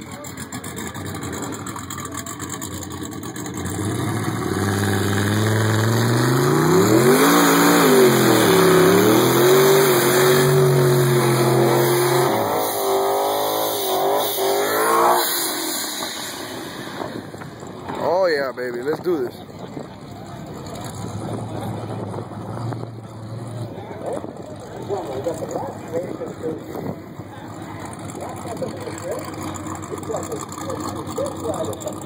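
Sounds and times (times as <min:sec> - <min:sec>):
truck engine revving: 0:00.0 - 0:18.0, 0:18.7 - 0:32.0.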